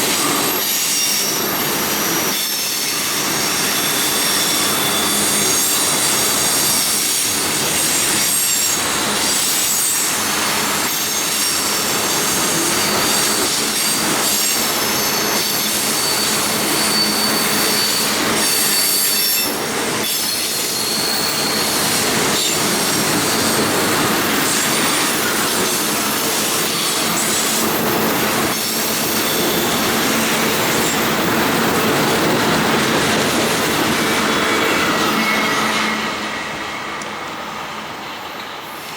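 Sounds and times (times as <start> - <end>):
steel wheels squealing: 0.0 - 37.0
train wheels rumbling on rails: 0.0 - 38.9.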